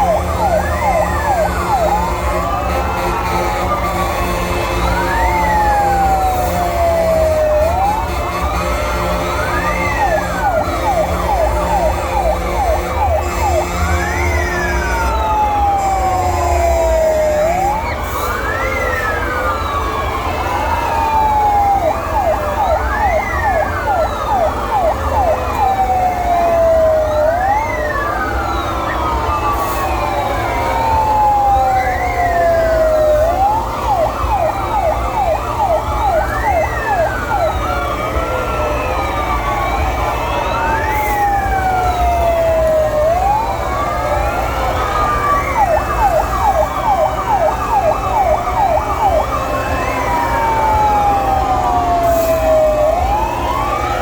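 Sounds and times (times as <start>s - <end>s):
engines rumbling low: 0.0s - 54.0s
wailing fire engine siren: 0.0s - 54.0s
yelping siren: 0.0s - 54.0s.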